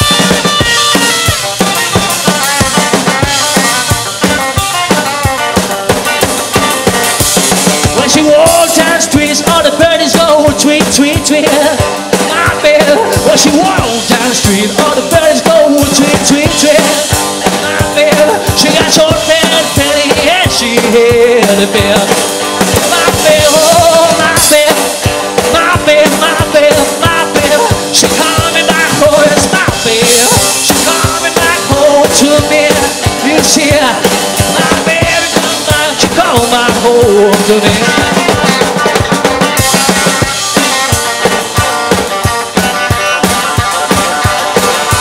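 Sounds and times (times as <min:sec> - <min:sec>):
drum kit: 0:00.0 - 0:45.0
electric guitar lead: 0:00.0 - 0:45.0.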